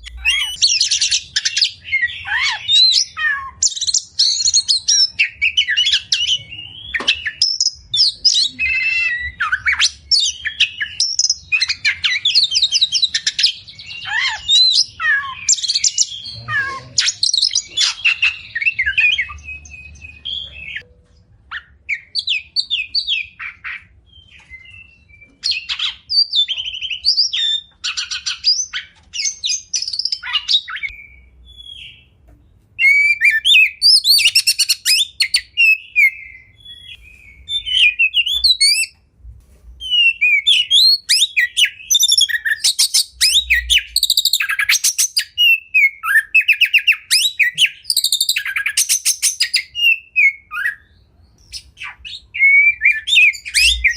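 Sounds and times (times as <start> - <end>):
bird singing whistled phrases: 0.0 - 20.9, 21.5 - 32.1, 32.8 - 39.0, 39.8 - 53.9.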